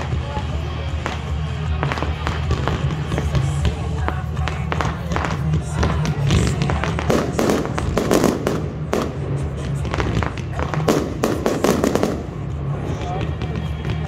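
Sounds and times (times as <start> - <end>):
fireworks bangs and crackles: 0.0 - 14.0
music with bass line: 0.0 - 14.0.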